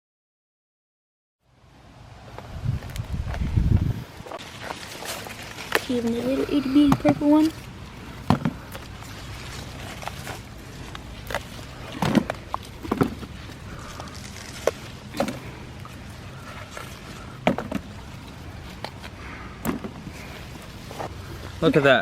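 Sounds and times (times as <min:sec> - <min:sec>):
leaves rustling: 0:01.5 - 0:22.0.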